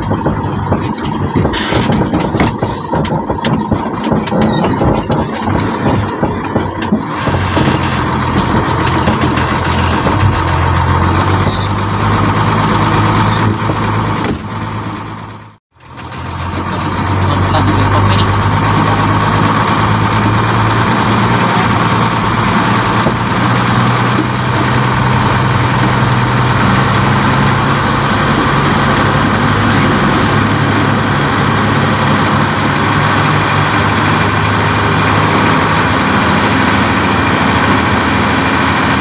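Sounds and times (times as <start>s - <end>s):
truck engine low drone: 0.0s - 39.0s.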